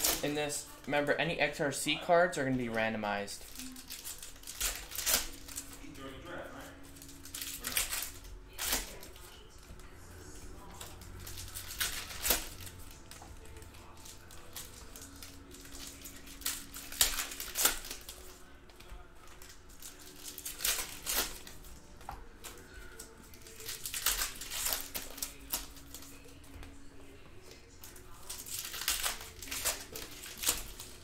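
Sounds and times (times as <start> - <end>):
foil wrappers crinkling: 0.0 - 31.0.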